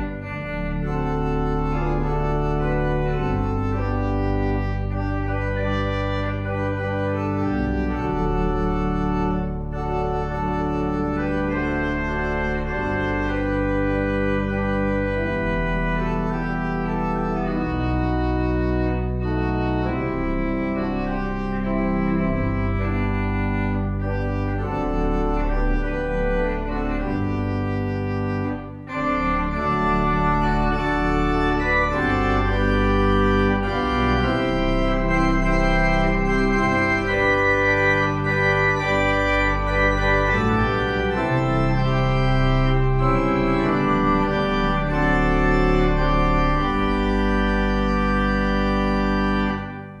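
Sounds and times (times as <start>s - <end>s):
organ playing slow chords: 0.0s - 50.0s.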